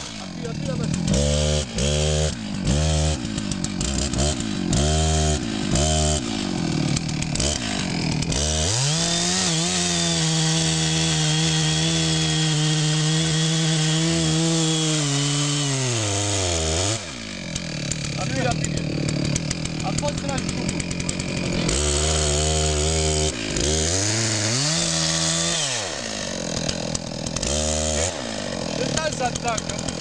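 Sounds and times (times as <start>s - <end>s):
chainsaw revving and cutting wood: 0.0s - 30.0s.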